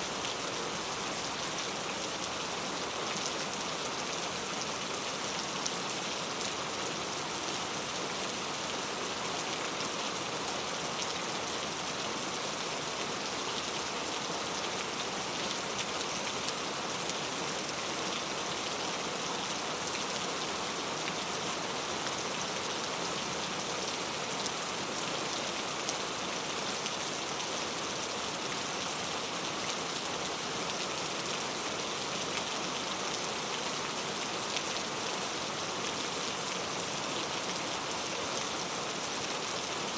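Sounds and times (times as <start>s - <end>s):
heavy rain on hard surface: 0.0s - 39.9s.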